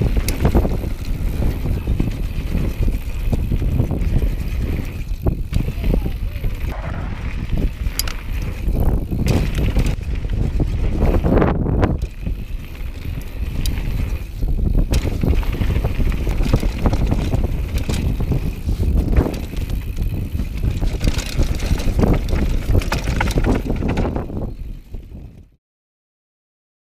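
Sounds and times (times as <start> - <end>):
bike rattling over stones: 0.0 - 25.4
wind buffeting microphone: 0.0 - 25.5.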